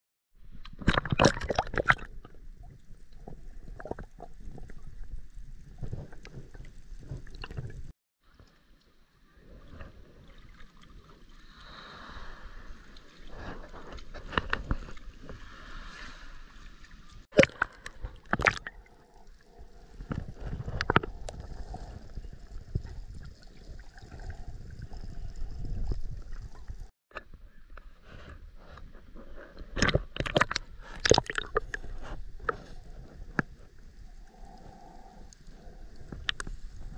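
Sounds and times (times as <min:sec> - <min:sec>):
water sloshing and gurgling: 0:00.4 - 0:26.9, 0:28.6 - 0:36.9.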